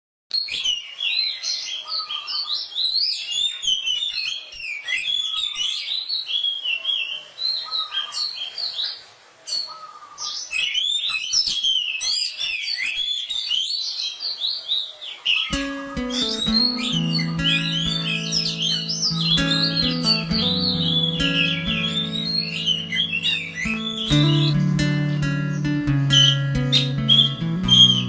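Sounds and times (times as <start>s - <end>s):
bird singing whistles and chirps: 0.3s - 8.4s, 9.5s - 14.6s, 15.3s - 28.0s.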